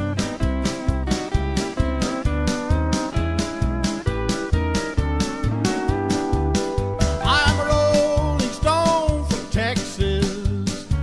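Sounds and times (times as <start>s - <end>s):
country band music: 0.0s - 11.0s.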